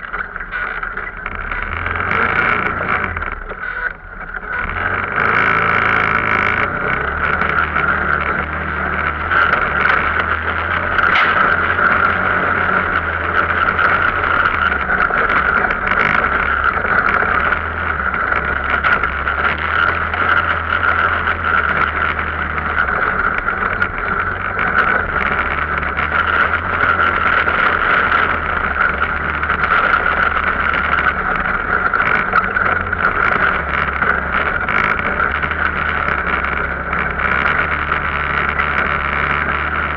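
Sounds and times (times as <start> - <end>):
off-road vehicle engine droning: 0.0 - 39.9.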